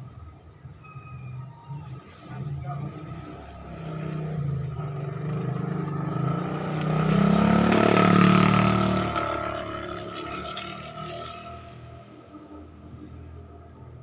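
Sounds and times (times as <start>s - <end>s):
vehicle engine passing: 1.8s - 13.5s.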